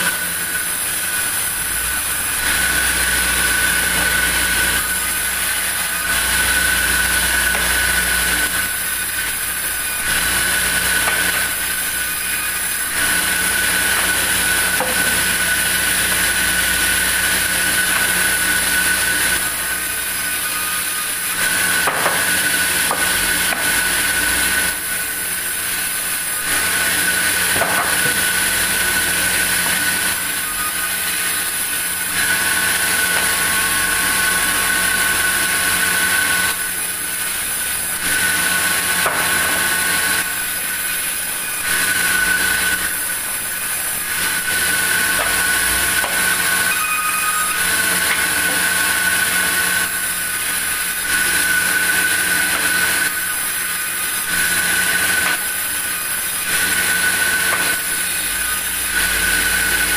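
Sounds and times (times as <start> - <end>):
band saw cutting wood: 0.0 - 59.9.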